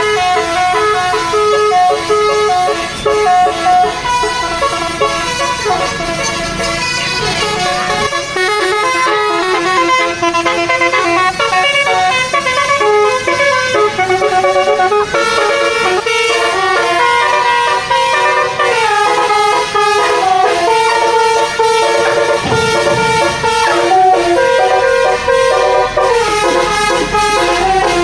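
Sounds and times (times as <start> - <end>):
musical bus horns playing a tune: 0.0 - 28.0.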